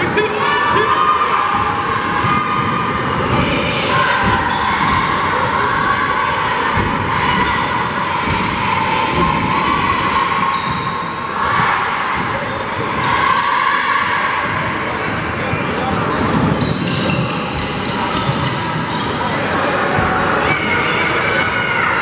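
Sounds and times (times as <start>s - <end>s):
crowd din echoing: 0.0s - 22.0s.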